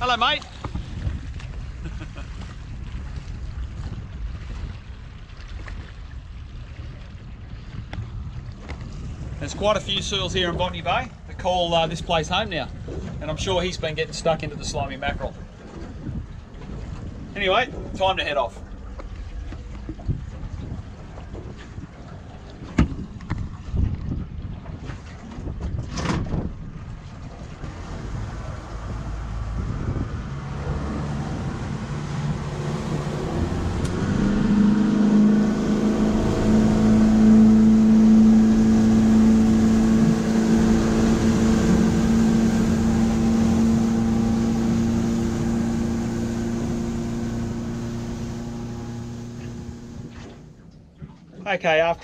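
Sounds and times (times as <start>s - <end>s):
rushing water: 0.0s - 50.6s
outboard motor running: 0.0s - 51.3s
wind: 0.0s - 52.0s.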